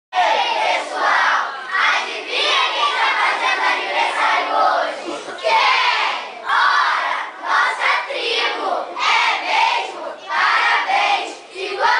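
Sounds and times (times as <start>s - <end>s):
children's choir singing: 0.2s - 11.9s.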